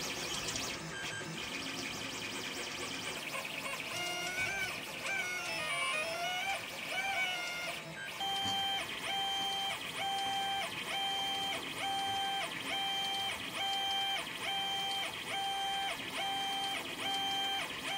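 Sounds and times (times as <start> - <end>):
printer stepper motors whining: 0.0 - 17.9.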